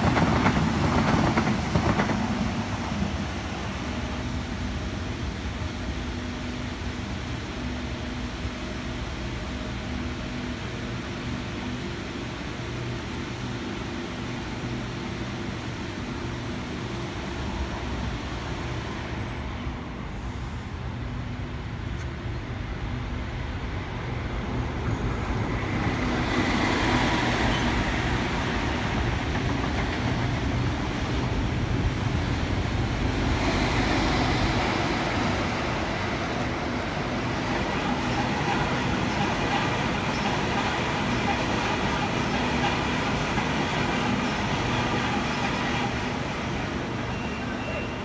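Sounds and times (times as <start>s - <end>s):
trains rumbling on rails: 0.0s - 48.0s.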